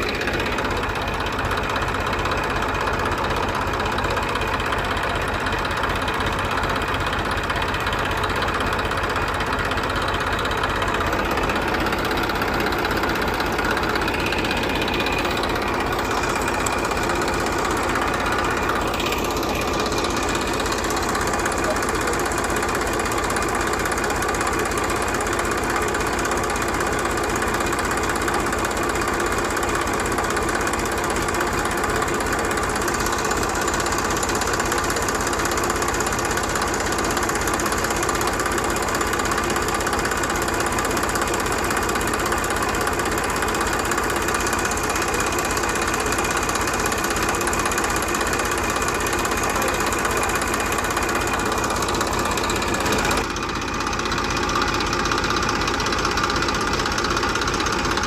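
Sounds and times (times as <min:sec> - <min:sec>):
small tractor engine running: 0:00.0 - 0:58.0.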